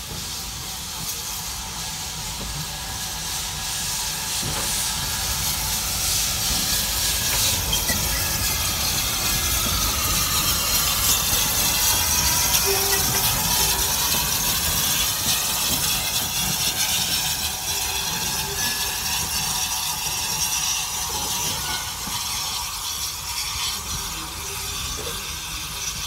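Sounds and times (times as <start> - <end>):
steam hissing: 0.0 - 26.0
steam locomotive moving off: 0.0 - 26.0.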